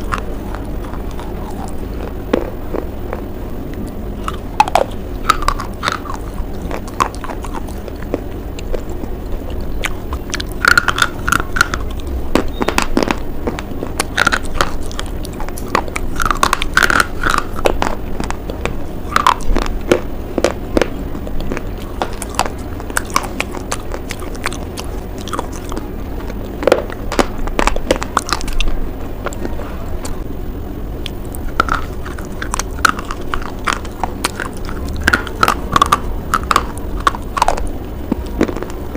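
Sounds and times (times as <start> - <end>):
biting and chewing crunches: 0.0 - 30.3, 31.0 - 38.9.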